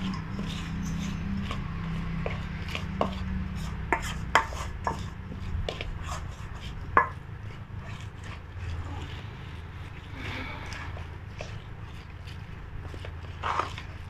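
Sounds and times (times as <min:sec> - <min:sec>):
spoon scraping dough in bowl: 0:00.0 - 0:14.0.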